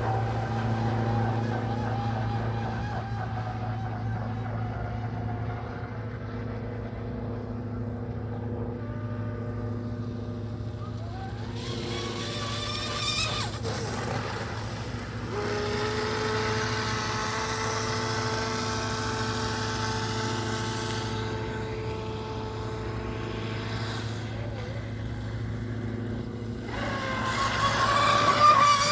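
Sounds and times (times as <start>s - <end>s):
radio-controlled boat motor whining: 0.0s - 28.9s.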